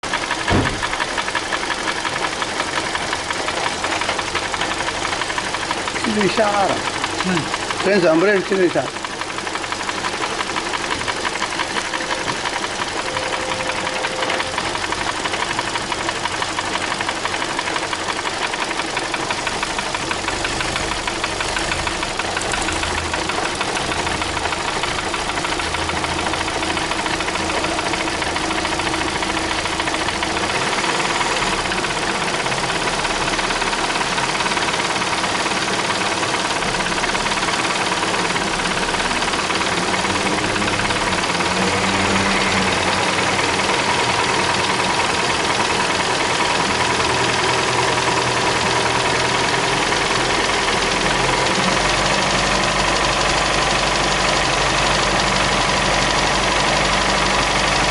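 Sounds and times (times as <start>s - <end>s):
car engine idling: 0.0s - 57.9s
rapid engine ticking: 0.0s - 57.9s.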